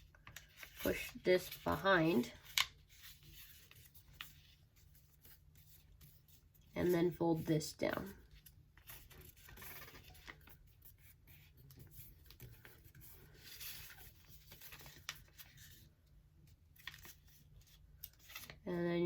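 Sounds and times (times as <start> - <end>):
paper rustling and scraping: 0.0 - 7.3, 8.0 - 15.9, 16.7 - 18.6.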